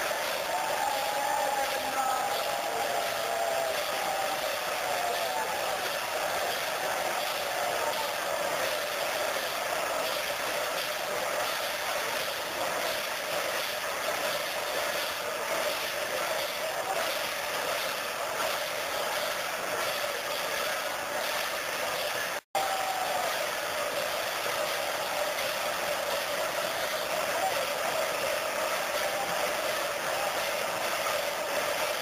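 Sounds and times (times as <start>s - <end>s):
large crowd din: 0.0s - 21.2s, 22.0s - 32.0s.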